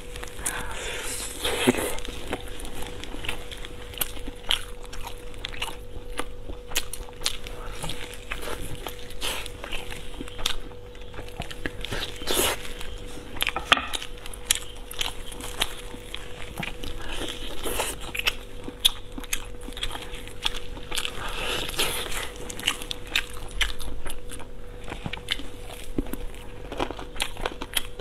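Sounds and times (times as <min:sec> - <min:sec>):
faint steady hum: 0:00.0 - 0:28.0
chewing and biting clicks: 0:01.4 - 0:28.0.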